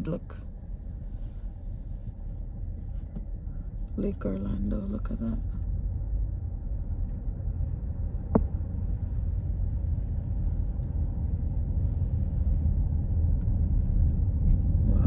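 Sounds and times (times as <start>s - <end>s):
car road rumble from inside: 0.0s - 15.0s.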